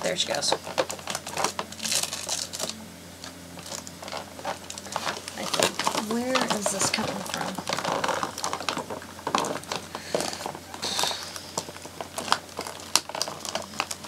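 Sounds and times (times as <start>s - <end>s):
packaging clicks and crinkles: 0.1s - 14.0s.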